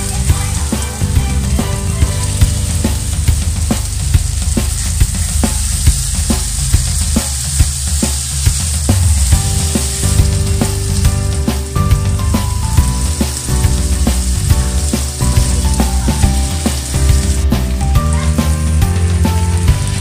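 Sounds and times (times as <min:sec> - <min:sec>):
background music: 0:00.0 - 0:20.0
food sizzling in oil: 0:00.0 - 0:20.0.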